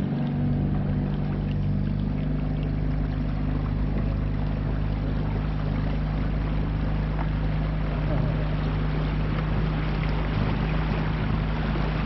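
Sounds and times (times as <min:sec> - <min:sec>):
outboard motor running: 0:00.0 - 0:12.0
rushing water: 0:00.0 - 0:12.0.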